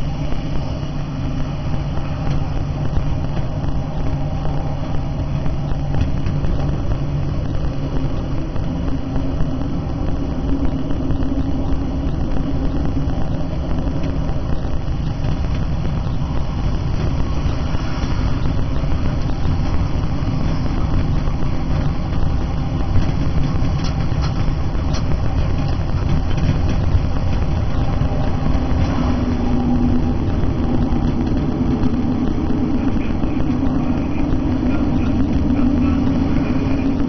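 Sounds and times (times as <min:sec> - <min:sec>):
train engine and wheels rumbling: 0:00.0 - 0:37.0.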